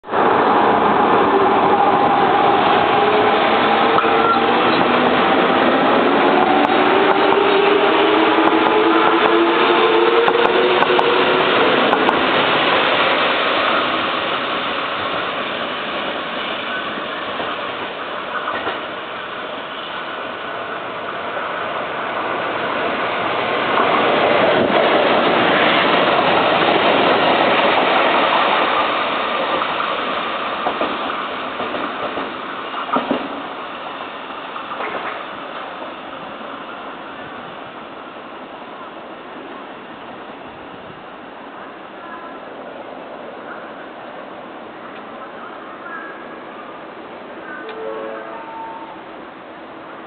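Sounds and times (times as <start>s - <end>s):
train cars rushing: 0.1s - 50.0s.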